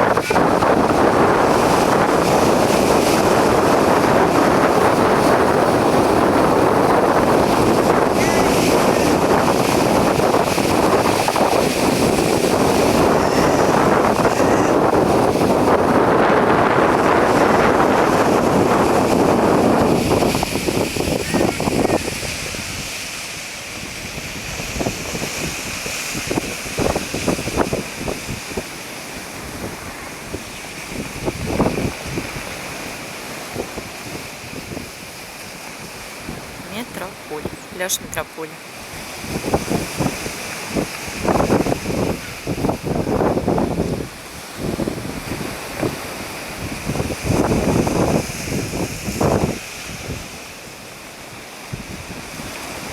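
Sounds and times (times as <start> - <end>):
strong wind blowing on microphone: 0.0 - 52.9
surf: 0.0 - 52.9.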